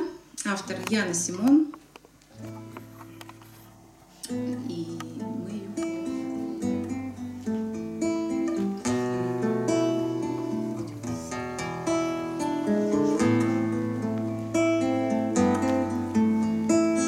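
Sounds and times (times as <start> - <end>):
nylon-string acoustic guitar: 2.3 - 17.0.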